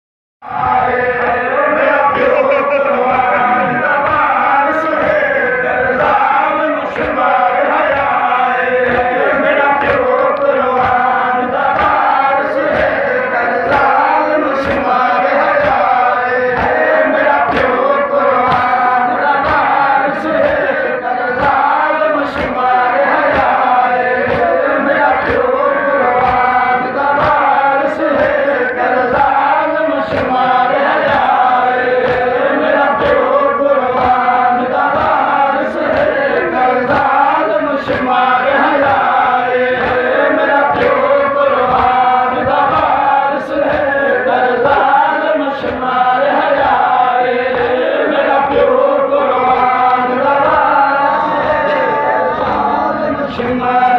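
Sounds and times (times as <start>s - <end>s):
men chanting a lament: 0.4s - 53.9s.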